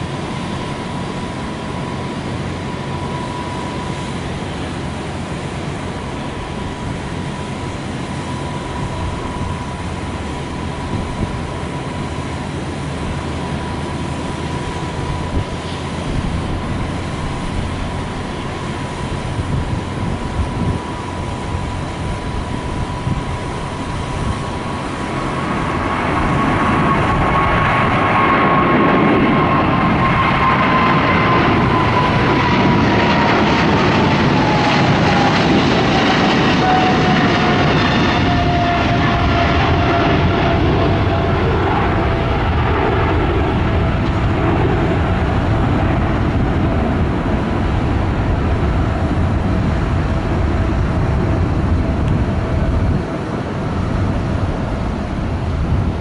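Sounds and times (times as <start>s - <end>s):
jet engine whine: 0.0s - 56.0s
low engine rumble: 0.0s - 56.0s.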